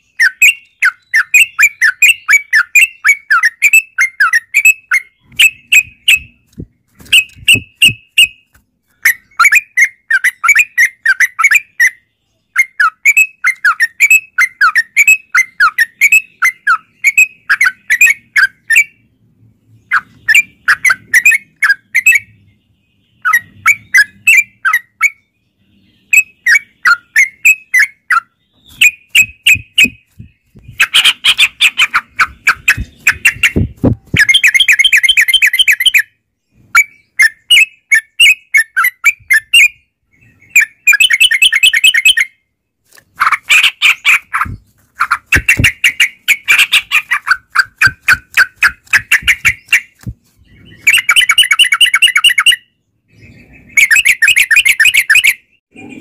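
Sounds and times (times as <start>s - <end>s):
birds chattering calls: 0.0s - 42.3s, 43.0s - 56.0s.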